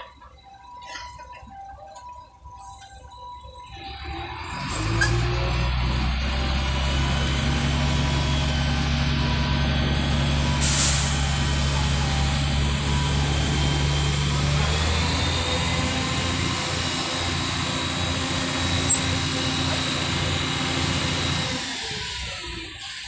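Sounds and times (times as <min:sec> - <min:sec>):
truck engine drone: 0:00.0 - 0:23.0.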